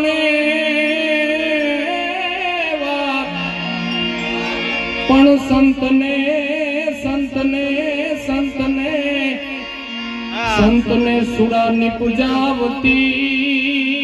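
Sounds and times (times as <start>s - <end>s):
harmonium held notes: 0.0s - 14.0s.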